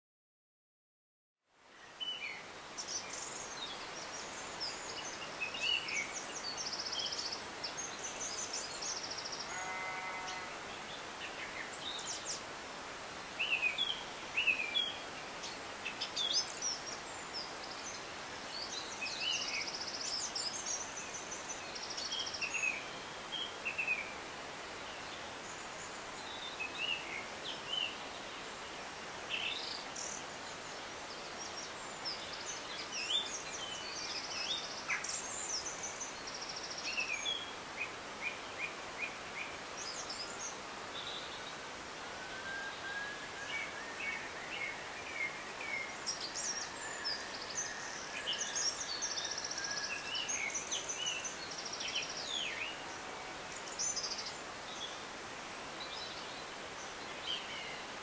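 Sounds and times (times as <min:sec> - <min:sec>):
river rushing: 0:01.8 - 0:58.0
songbirds chirping and trilling: 0:01.8 - 0:58.0.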